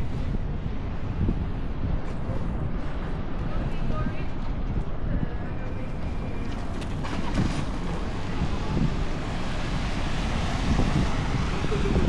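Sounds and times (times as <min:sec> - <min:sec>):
passing vehicles rush: 0:00.0 - 0:12.0
wind rumble on microphone: 0:00.0 - 0:12.0.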